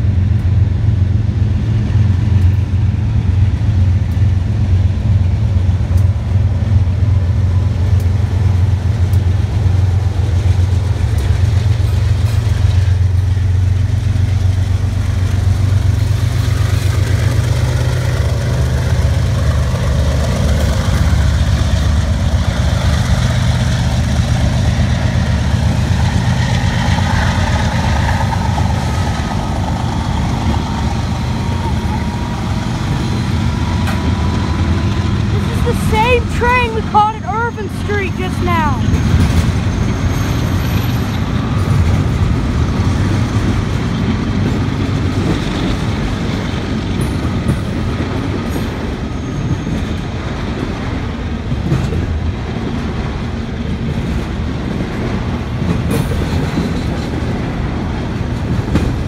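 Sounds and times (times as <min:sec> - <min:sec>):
diesel locomotives rumbling: 0:00.0 - 0:59.0
wheel and rail noise: 0:00.0 - 0:59.0.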